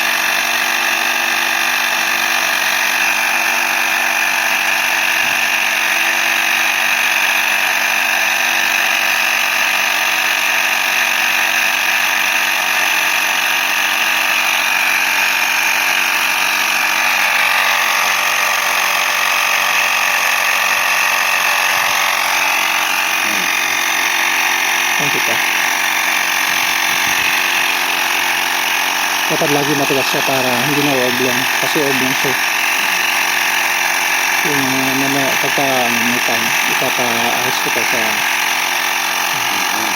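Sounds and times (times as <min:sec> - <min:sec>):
tyre inflator compressor running: 0:00.0 - 0:39.9.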